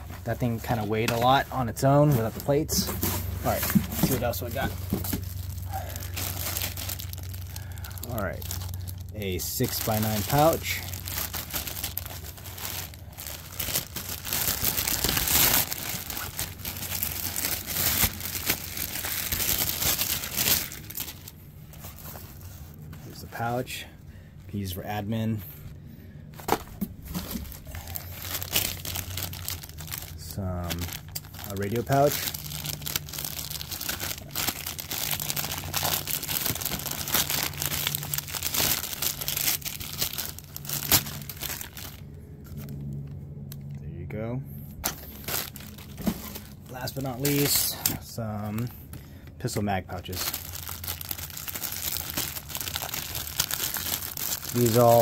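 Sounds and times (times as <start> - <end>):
plastic bag crinkling: 0.0 - 23.8, 26.5 - 43.0, 44.8 - 49.1, 49.7 - 55.0.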